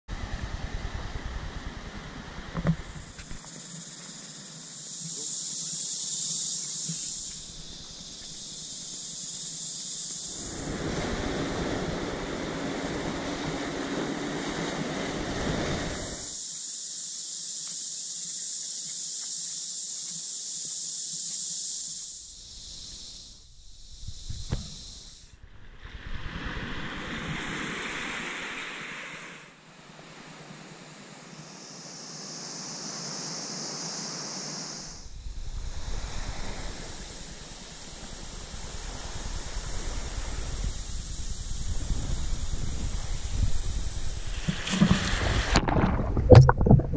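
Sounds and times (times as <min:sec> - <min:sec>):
wind: 0:00.0 - 0:46.9
surf hissing: 0:00.1 - 0:46.9.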